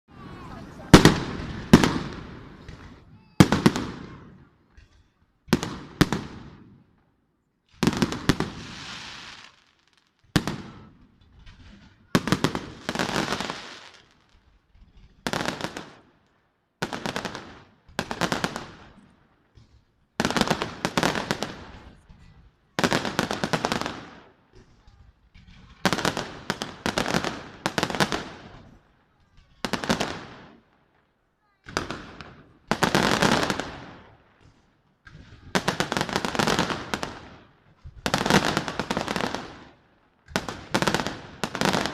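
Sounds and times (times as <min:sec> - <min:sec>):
fireworks bursting: 0:00.1 - 0:41.9.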